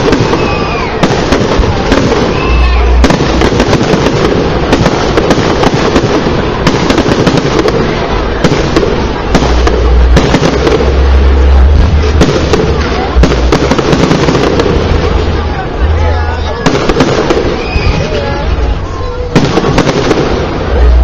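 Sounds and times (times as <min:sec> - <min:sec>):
fireworks booming and crackling: 0:00.0 - 0:21.0.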